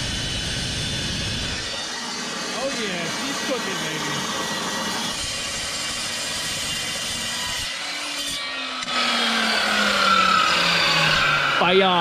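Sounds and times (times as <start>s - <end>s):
chop saw cutting steel: 0.0s - 12.0s.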